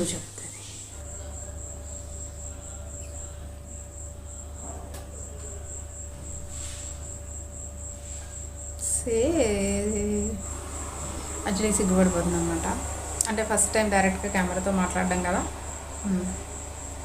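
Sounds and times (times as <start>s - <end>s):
cricket chirping: 0.0s - 17.0s
low steady hum: 0.0s - 17.0s.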